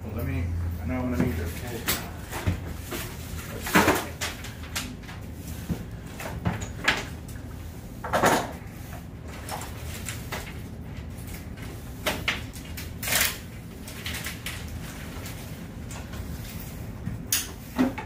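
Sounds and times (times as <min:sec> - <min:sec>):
scrapes and rustles: 0:01.1 - 0:18.0.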